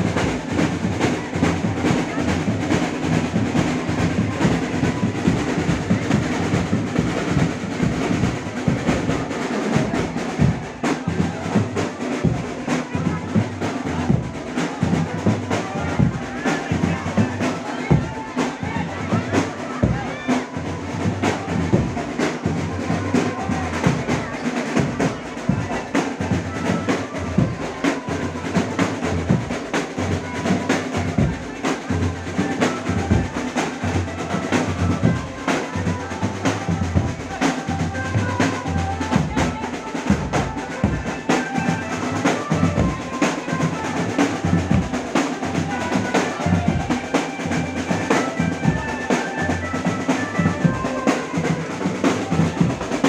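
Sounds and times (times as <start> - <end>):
loud drum-driven music with melody: 0.0 - 53.0.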